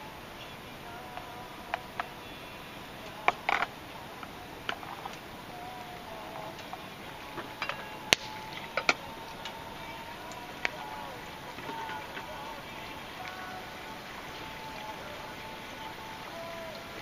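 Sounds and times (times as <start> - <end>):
campfire crackling: 0.0 - 17.0
burning wood popping: 1.2 - 17.0.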